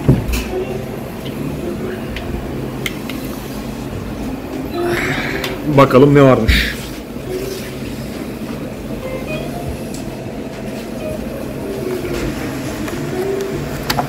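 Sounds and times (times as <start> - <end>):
restaurant room rumble: 0.0 - 14.0.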